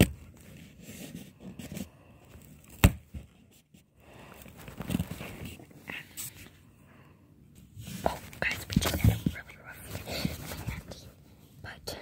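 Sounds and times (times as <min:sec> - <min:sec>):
bumps and rustling in box: 0:00.0 - 0:06.4, 0:07.6 - 0:11.2.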